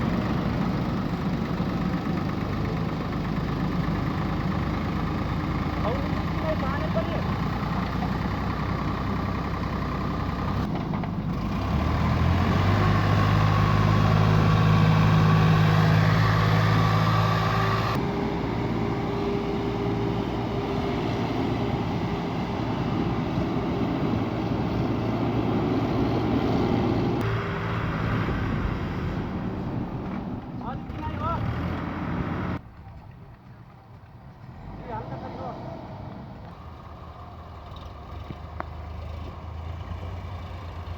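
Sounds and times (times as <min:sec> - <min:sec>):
heavy diesel engines under load: 0:00.0 - 0:40.9.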